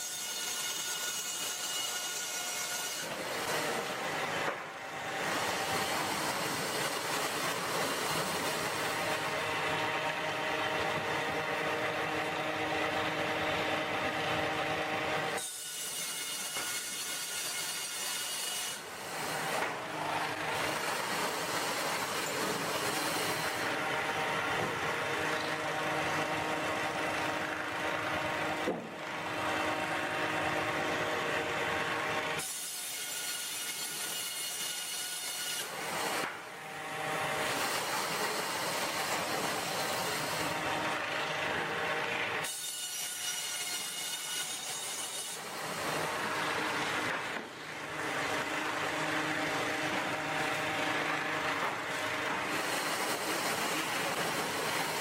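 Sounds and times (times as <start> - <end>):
saw cutting logs: 0.0 - 55.0
sawmill machinery running: 0.0 - 55.0.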